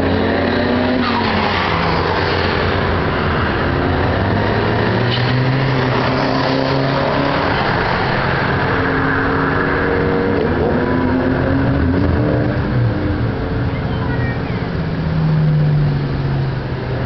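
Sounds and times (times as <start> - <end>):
car engines running: 0.0 - 17.0
tyres on road: 0.0 - 17.0.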